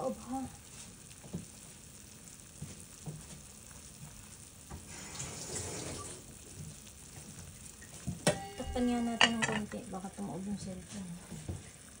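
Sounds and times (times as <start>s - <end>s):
pot of water boiling: 0.0s - 12.0s.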